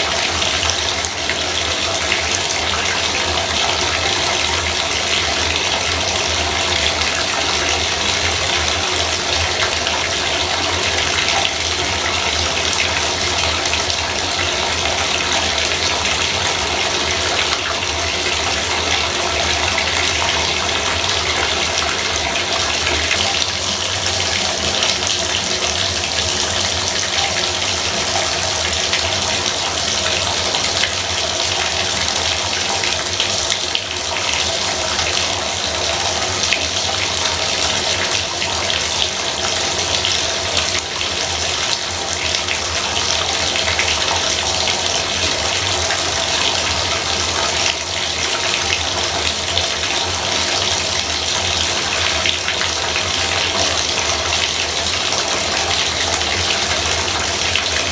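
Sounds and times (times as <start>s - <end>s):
bathtub faucet running: 0.0s - 57.9s.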